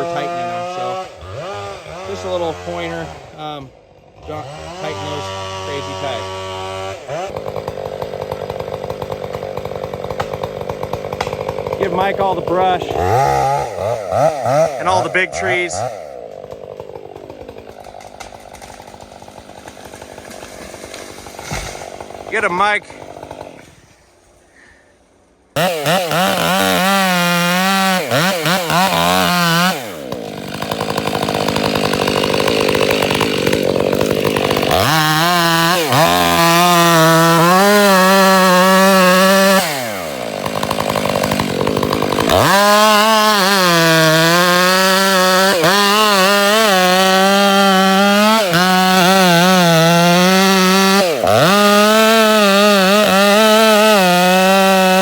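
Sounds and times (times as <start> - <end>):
chainsaw cutting timber: 0.0 - 24.7, 25.5 - 55.0.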